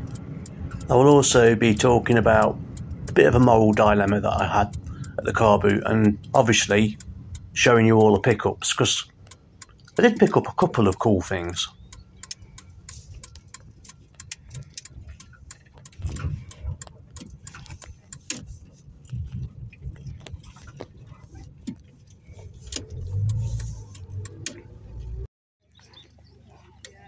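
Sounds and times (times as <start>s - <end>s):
loose items rattling in car: 0.0s - 25.2s
car rumbling over bumpy ground: 0.0s - 27.0s.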